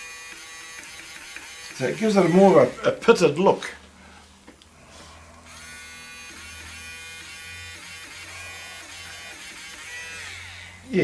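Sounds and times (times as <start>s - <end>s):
electric eraser motor whirring: 0.0s - 3.0s, 5.0s - 10.9s.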